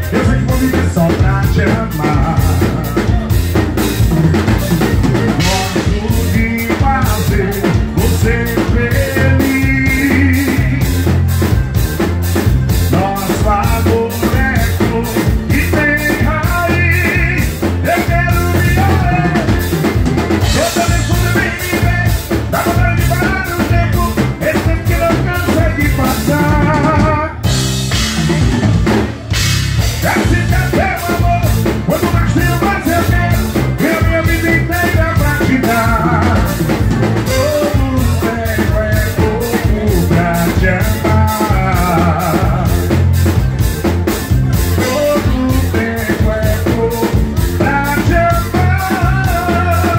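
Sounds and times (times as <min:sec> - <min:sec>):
drum kit beat: 0:00.0 - 0:49.9
live band playing: 0:00.0 - 0:49.9.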